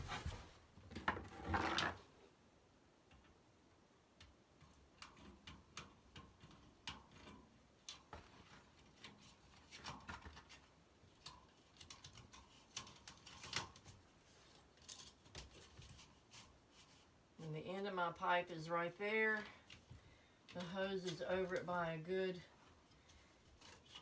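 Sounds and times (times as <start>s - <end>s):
vent duct clicking and crinkling: 3.0s - 24.0s.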